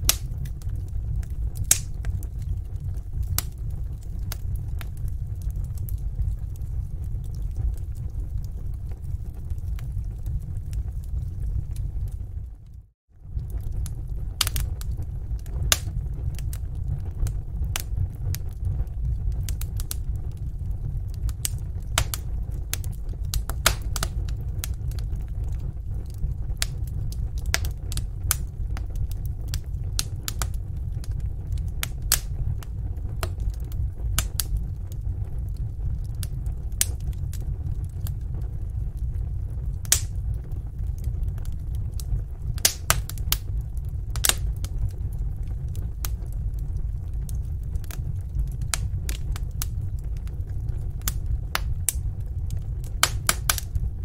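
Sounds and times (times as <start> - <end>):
sharp pops of fire: 0.0 - 12.4, 13.3 - 53.9
low rumble: 0.0 - 54.0
wood fire crackling: 0.0 - 54.0.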